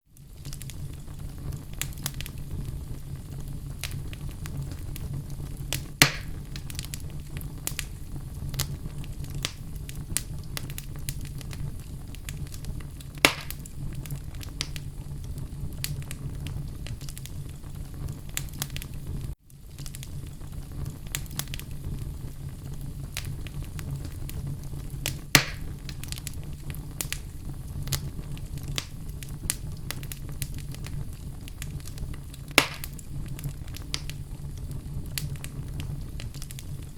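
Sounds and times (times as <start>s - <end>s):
fire crackling: 0.0s - 36.9s
fire popping: 0.1s - 36.9s.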